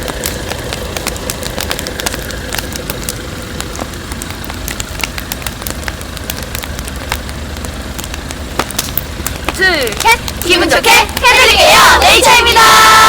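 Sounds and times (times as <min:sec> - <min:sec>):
campfire crackling and popping: 0:00.0 - 0:13.0
low rumbling noise: 0:00.0 - 0:13.0.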